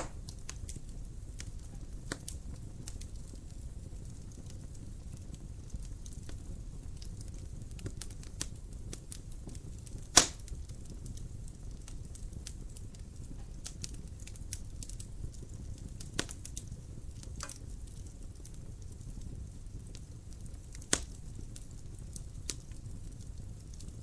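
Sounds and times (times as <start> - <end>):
fire flames rumbling: 0.0 - 24.0
fire popping and snapping: 0.0 - 24.0.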